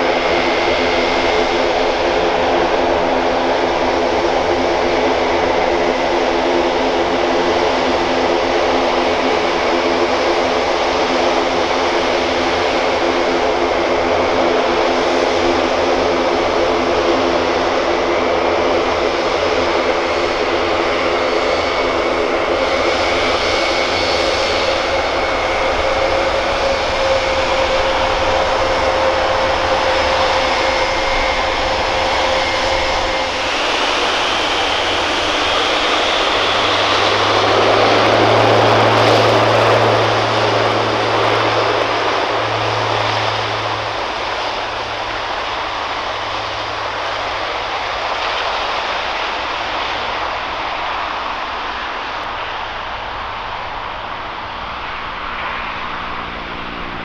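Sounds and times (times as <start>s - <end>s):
high engine whine: 0.0s - 57.0s
turboprop propeller drone: 0.0s - 57.0s.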